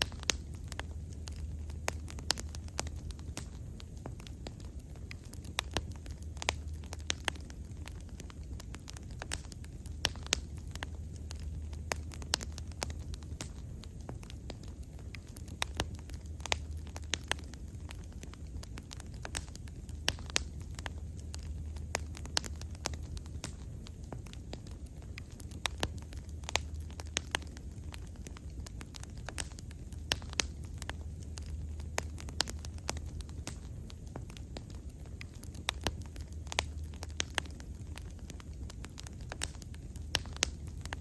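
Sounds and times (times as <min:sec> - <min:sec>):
low fire rumble: 0:00.0 - 0:41.0
wood fire crackling and popping: 0:00.0 - 0:41.0.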